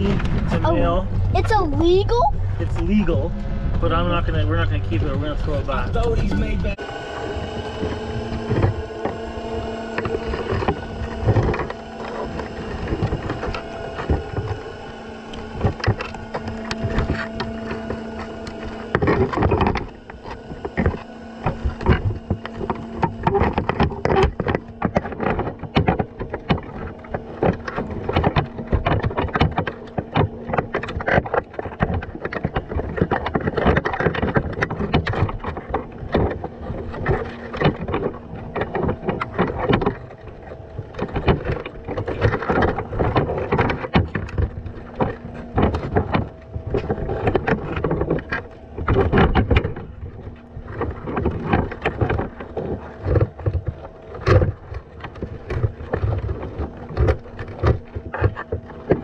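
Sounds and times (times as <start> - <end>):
faint low hum: 0.0 - 59.0
underwater crackling and knocking: 0.0 - 59.0.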